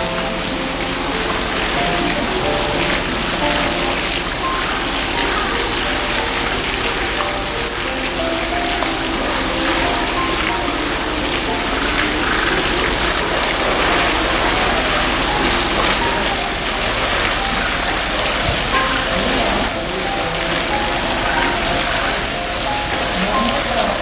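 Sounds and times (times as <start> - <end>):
soft background music: 0.0 - 24.0
water splashing and churning: 0.0 - 24.0.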